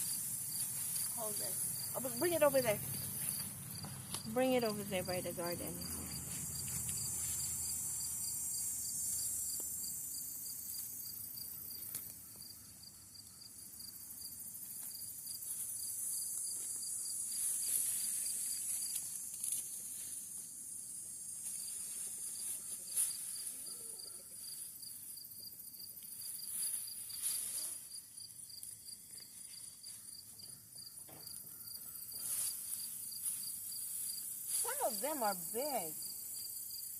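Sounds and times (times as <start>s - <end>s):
insects chirping: 0.0s - 36.9s.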